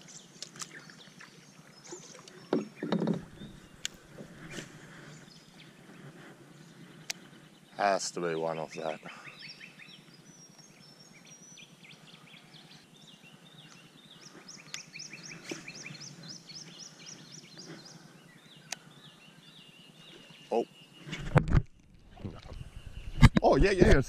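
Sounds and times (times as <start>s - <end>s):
birds chirping and whistling: 1.8s - 7.8s, 8.9s - 21.3s, 22.1s - 23.3s.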